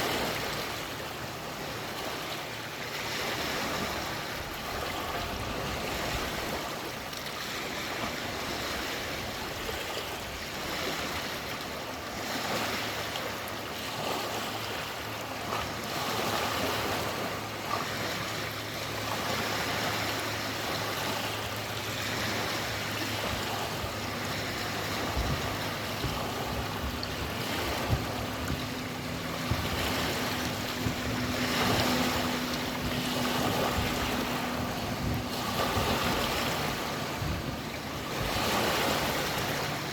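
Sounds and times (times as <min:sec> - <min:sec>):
lake water lapping at shore: 0:00.0 - 0:39.9.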